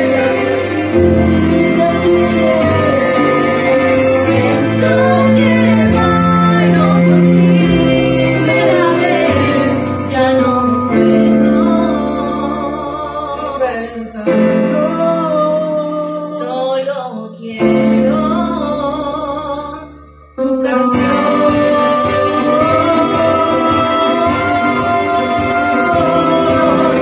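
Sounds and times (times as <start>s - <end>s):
piano backing track: 0.0s - 27.0s
woman singing a ballad: 0.0s - 27.0s.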